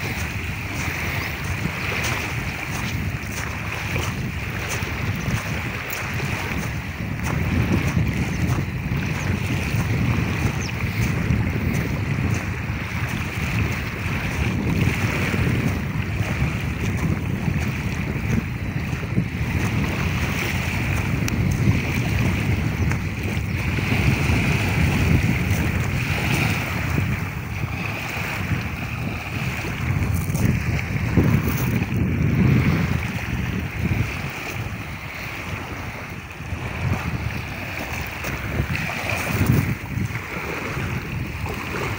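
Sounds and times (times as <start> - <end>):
waves lapping on gravel shore: 0.0 - 41.9
wind buffeting microphone: 0.0 - 41.9.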